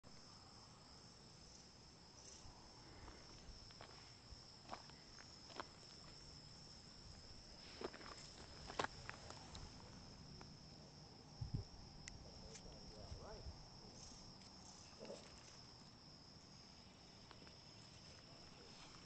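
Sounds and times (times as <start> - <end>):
high-pitched insect song: 0.0 - 19.0.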